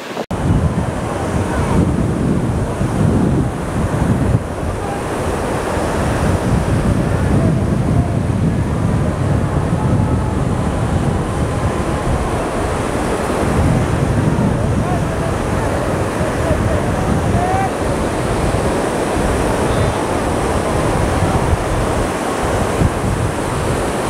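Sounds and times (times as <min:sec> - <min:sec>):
sea surf breaking on beach: 0:00.0 - 0:24.0
wind buffeting microphone: 0:00.0 - 0:24.0.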